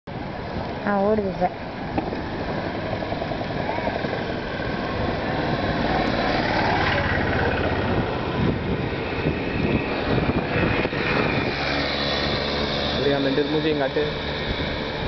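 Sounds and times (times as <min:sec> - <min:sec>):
engine running: 0:00.1 - 0:15.0.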